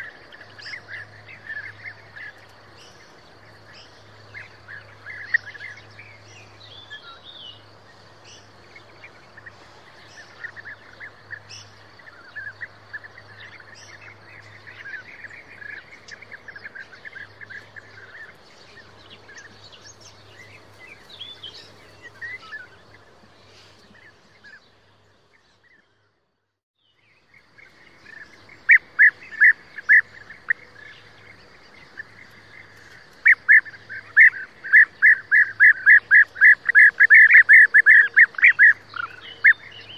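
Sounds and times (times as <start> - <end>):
bee-eaters calling: 0.0 - 24.8, 27.3 - 39.9.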